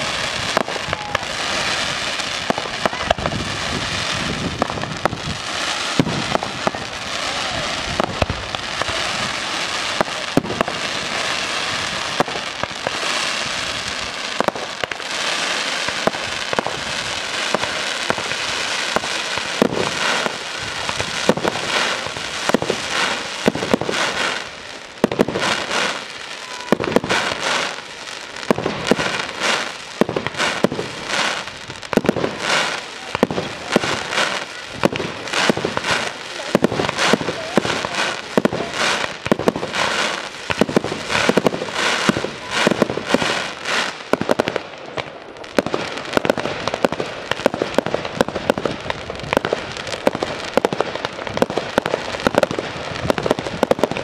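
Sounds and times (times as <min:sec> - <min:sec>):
small firework pops: 0:00.0 - 0:01.4, 0:02.2 - 0:03.4, 0:04.5 - 0:09.2, 0:12.2 - 0:13.1, 0:14.2 - 0:15.1, 0:15.8 - 0:54.0.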